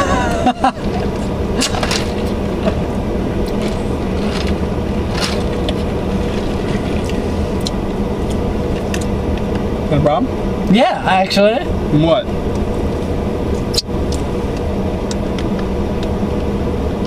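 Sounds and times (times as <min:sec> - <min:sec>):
car idling hum: 0:00.0 - 0:17.0.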